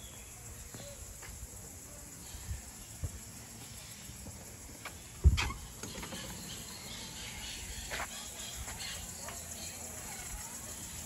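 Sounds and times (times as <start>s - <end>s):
faint insect noise: 0.0s - 11.0s.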